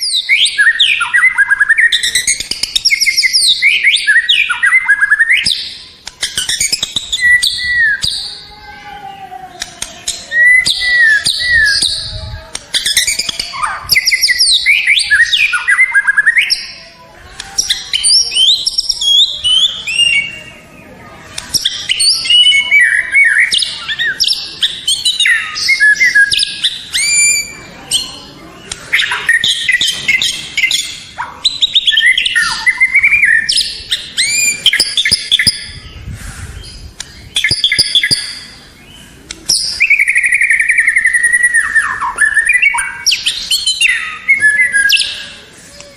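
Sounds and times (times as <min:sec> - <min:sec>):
songbird whistles and trills: 0:00.0 - 0:08.5, 0:09.5 - 0:16.8, 0:17.4 - 0:20.7, 0:21.4 - 0:45.9.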